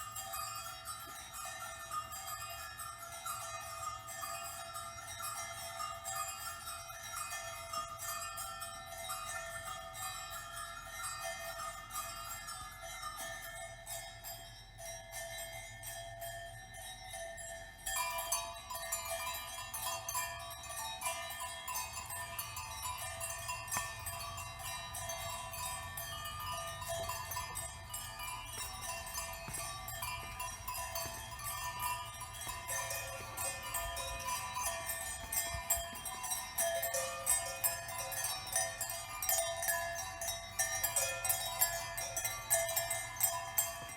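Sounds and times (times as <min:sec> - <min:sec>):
tinkling bell-like chimes: 0:00.0 - 0:43.9.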